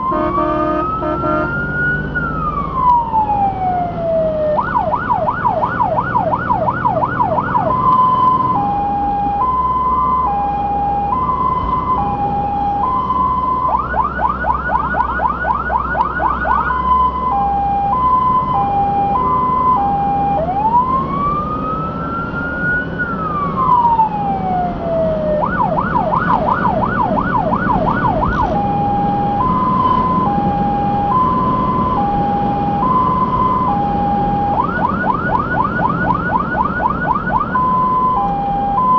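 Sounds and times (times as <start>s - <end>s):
fire engine siren: 0.0s - 38.9s
truck engine and road noise: 0.0s - 38.9s.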